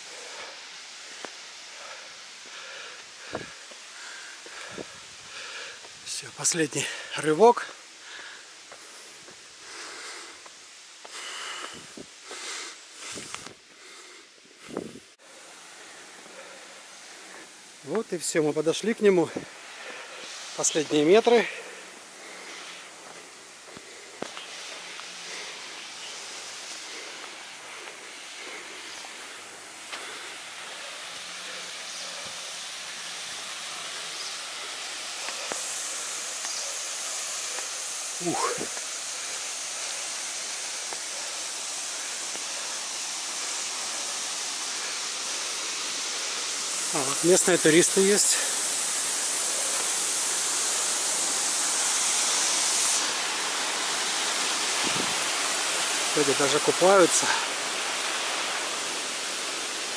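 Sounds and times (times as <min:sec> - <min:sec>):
waterfall rushing hiss: 0:00.0 - 0:59.9.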